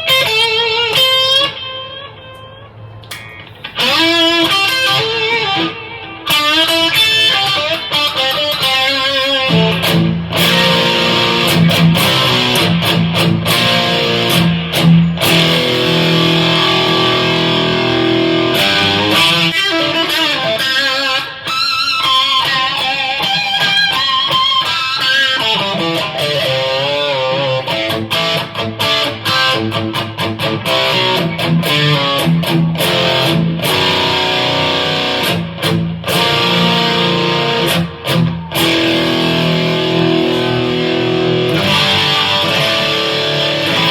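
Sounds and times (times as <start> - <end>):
distorted electric guitar: 0.0 - 43.9.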